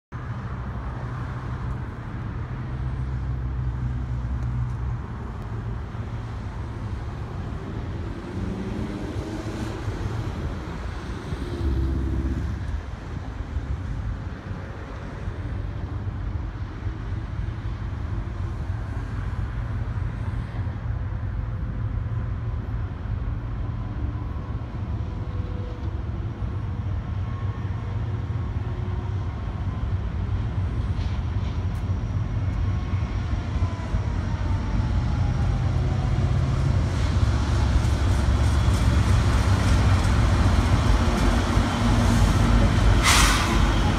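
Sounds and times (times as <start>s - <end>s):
distant road traffic rumble: 0.2s - 43.9s.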